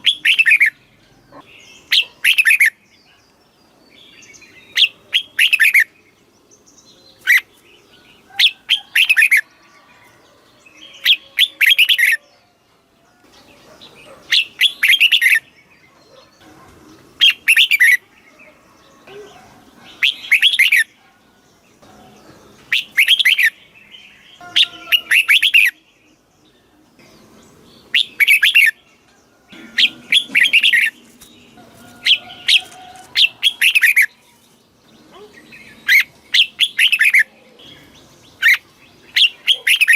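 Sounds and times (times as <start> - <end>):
bulbul singing warbled phrases: 0.0 - 9.7, 10.6 - 12.6, 13.2 - 39.9.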